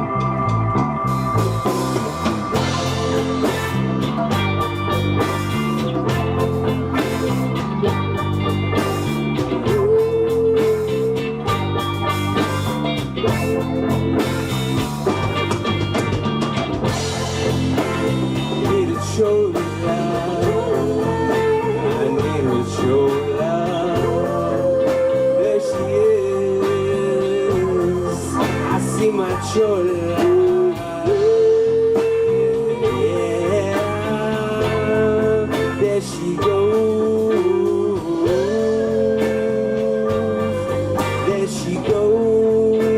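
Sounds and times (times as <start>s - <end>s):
bass: 0.0s - 42.9s
drums: 0.0s - 42.9s
lead guitar melody: 0.0s - 42.9s.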